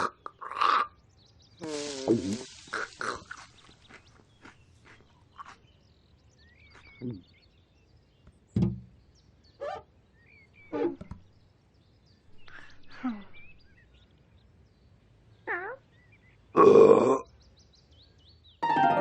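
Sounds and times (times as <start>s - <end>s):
faint bird chirping: 0.1s - 18.6s.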